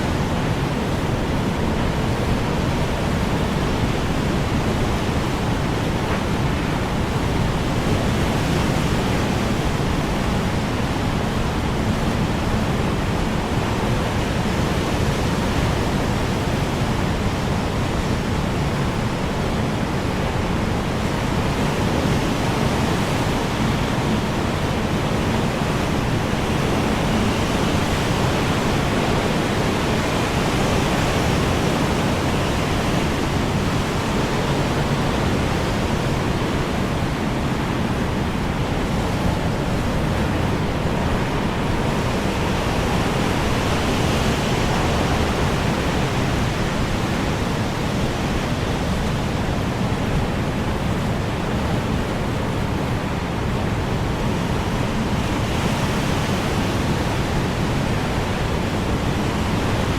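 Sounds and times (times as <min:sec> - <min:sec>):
strong wind blowing: 0:00.0 - 0:59.9.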